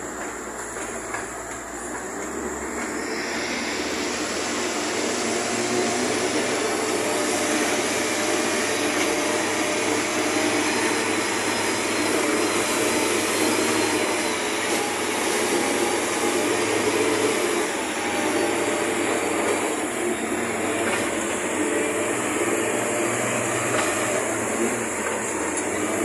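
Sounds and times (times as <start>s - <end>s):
heavy diesel engine under load: 0.0s - 26.0s.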